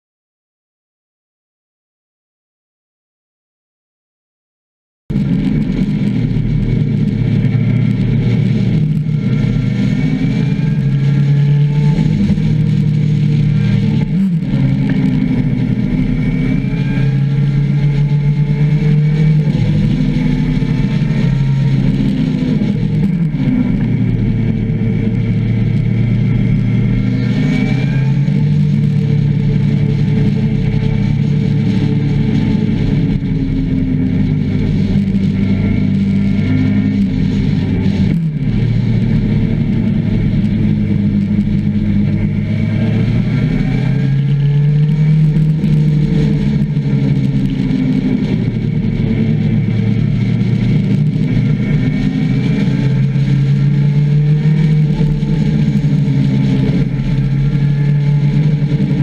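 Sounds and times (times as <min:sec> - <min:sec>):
motorcycle engine running: 0:05.1 - 0:59.0.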